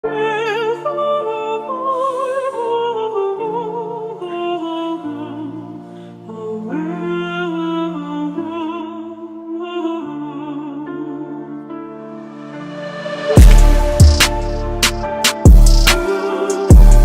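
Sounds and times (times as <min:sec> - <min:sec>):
slow operatic melody with vibrato: 0:00.0 - 0:17.0.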